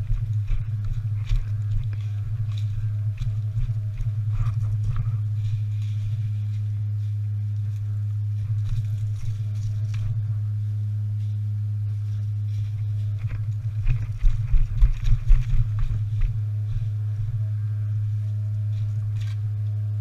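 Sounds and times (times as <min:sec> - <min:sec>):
heavy low thumps: 0:00.0 - 0:20.0
steady low hum: 0:00.0 - 0:20.0.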